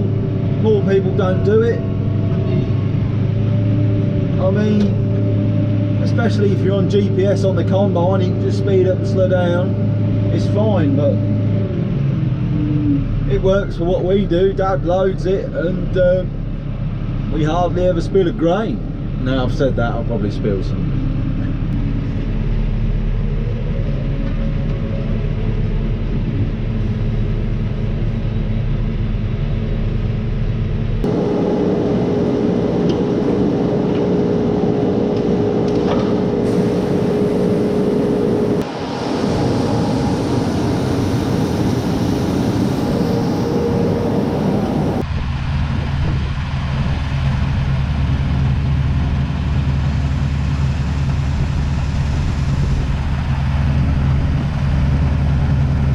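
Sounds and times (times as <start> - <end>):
combine harvester running: 0.0 - 55.9
steady hum: 0.0 - 55.9.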